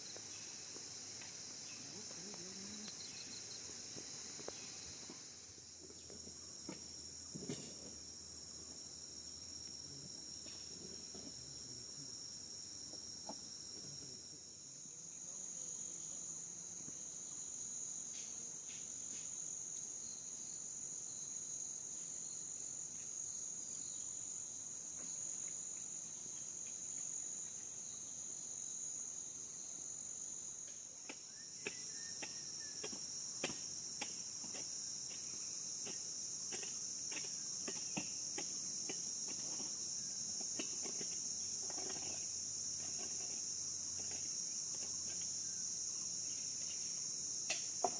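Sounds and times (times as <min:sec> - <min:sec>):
insects trilling: 0:00.0 - 0:47.9.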